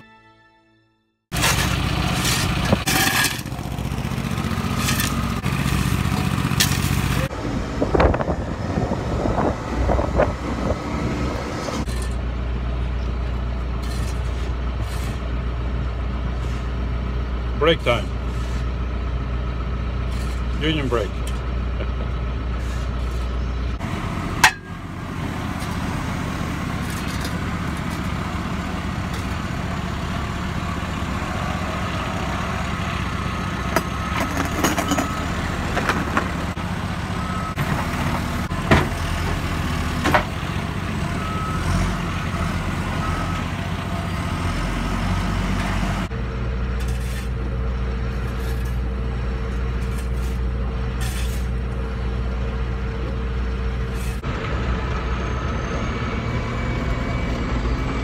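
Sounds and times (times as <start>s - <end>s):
diesel engine running: 1.3s - 58.0s.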